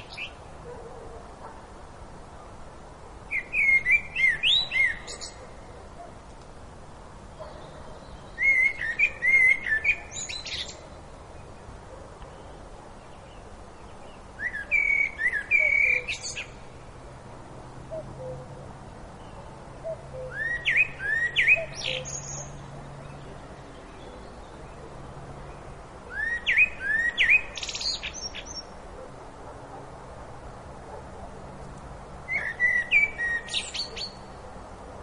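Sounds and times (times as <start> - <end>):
songbird singing: 0.0 - 1.6, 2.2 - 35.0.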